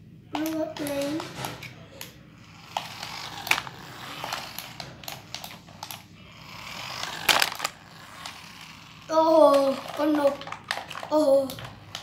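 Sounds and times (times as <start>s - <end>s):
toy car motor whirring: 0.4s - 12.0s.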